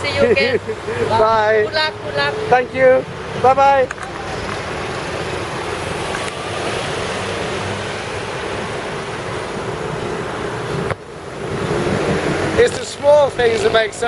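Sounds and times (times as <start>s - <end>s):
motor traffic rumble: 0.0s - 14.0s
wind rush: 0.0s - 14.0s.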